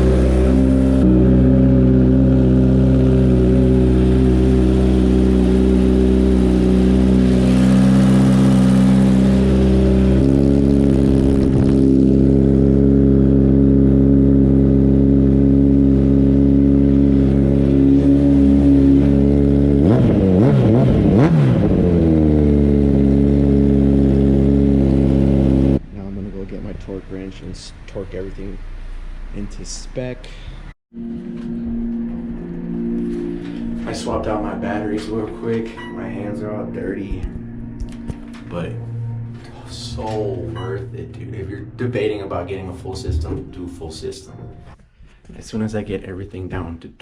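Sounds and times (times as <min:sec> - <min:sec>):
motorcycle engine idling and revving: 0:00.0 - 0:40.7.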